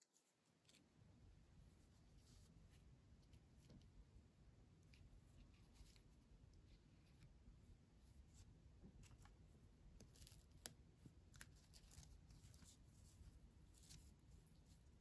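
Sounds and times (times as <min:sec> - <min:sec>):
faint scratching and rustling: 0:00.0 - 0:04.1, 0:04.7 - 0:15.0.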